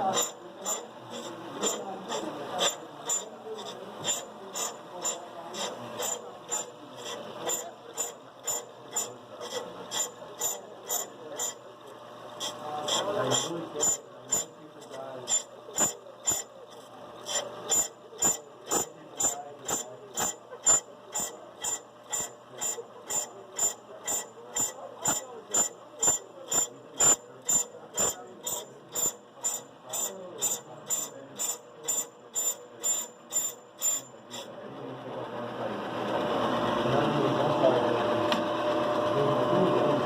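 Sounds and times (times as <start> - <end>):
brake lathe cutting drum: 0.0 - 40.0.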